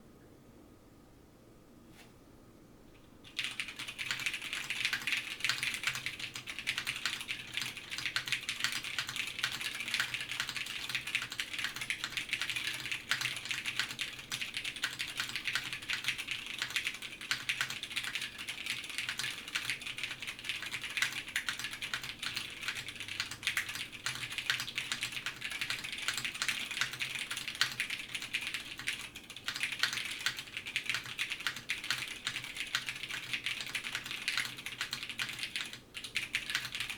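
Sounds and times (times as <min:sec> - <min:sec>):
fast typing on mechanical keyboard: 0:03.3 - 0:36.9.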